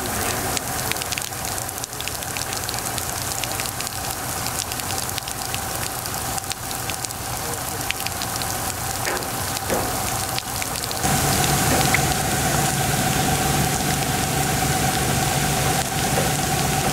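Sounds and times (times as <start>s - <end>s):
low steady hum: 0.0s - 16.9s
rain falling: 0.0s - 16.9s.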